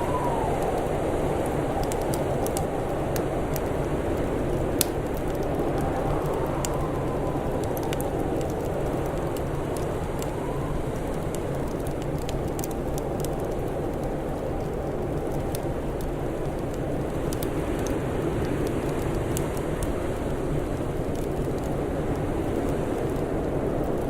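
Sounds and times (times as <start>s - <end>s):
blizzard wind roaring: 0.0s - 24.0s
wood fire crackling: 0.0s - 24.0s.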